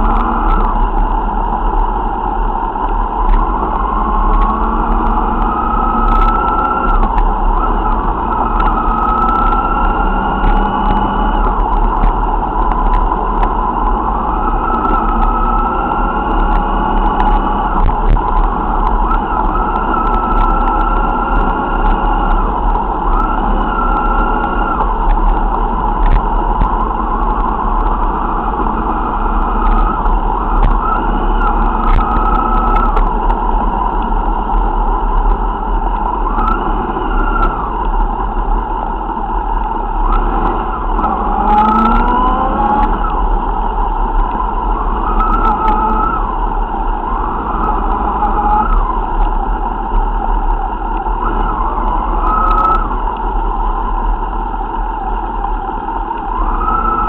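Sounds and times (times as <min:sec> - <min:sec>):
motorcycle engines revving: 0:00.0 - 0:57.0
road and wind noise: 0:00.0 - 0:57.0.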